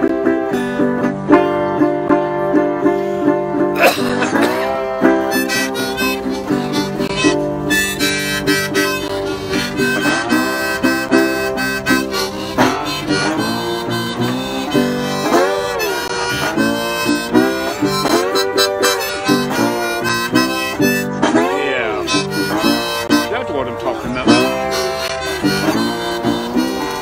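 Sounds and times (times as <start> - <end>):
harmonica with bent notes: 0.0 - 27.0
resonator slide guitar: 0.0 - 27.0.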